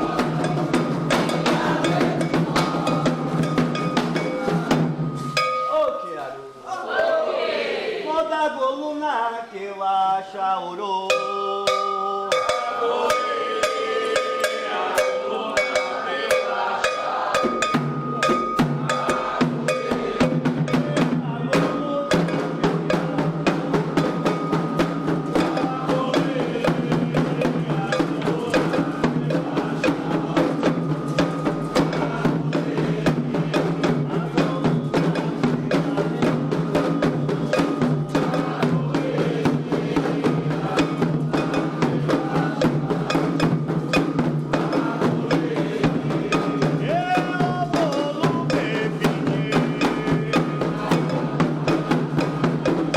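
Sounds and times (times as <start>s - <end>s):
agogo bell: 0.0s - 6.6s, 11.1s - 52.9s
hand drums playing: 0.0s - 6.6s, 11.0s - 52.9s.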